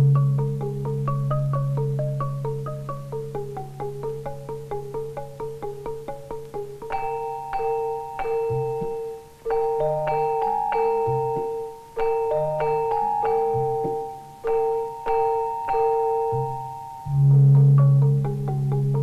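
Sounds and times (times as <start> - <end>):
tuned mallet percussion music: 0.0 - 19.0.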